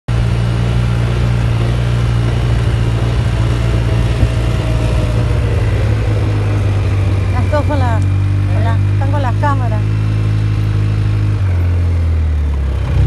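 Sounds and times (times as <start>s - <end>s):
quad bike engine running: 0.1s - 13.0s.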